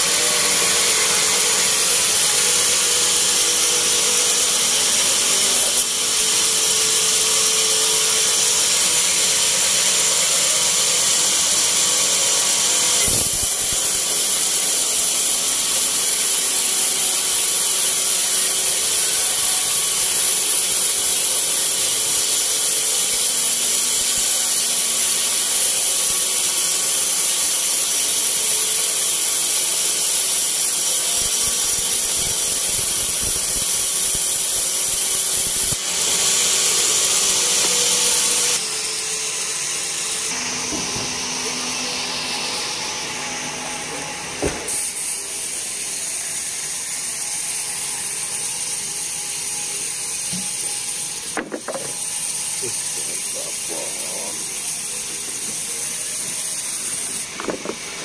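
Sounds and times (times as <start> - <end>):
band saw cutting wood: 0.0 - 58.0.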